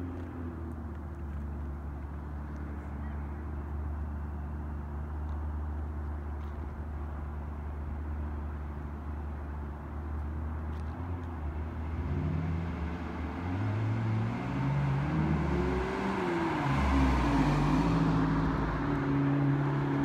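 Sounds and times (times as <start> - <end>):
car engine droning: 0.0 - 20.0
road and tyre noise: 0.0 - 20.0.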